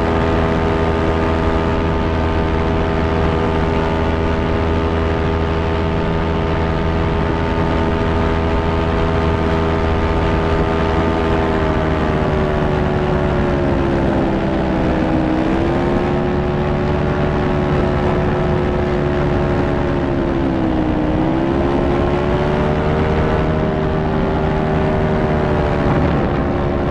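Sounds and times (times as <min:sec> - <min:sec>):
fan motor whine: 0:00.0 - 0:26.9.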